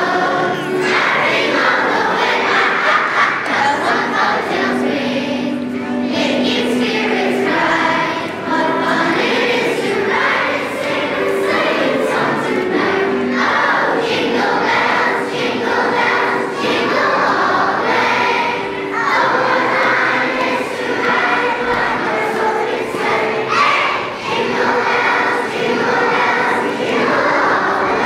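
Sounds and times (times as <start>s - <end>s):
children singing together: 0.0s - 28.0s.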